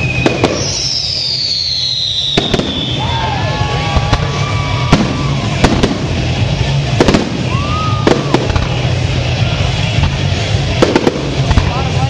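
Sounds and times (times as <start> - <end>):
whistling firework: 0.0 - 9.0, 9.8 - 11.7
fireworks banging: 0.0 - 12.0.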